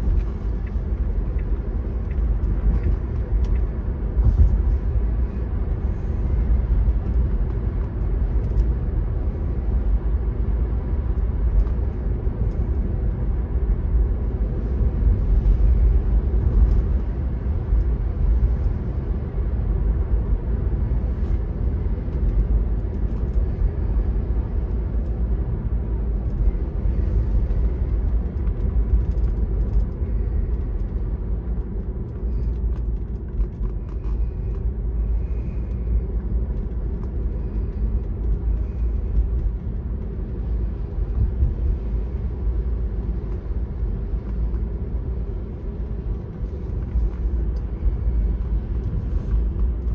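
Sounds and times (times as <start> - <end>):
car cabin road rumble: 0.0 - 49.9.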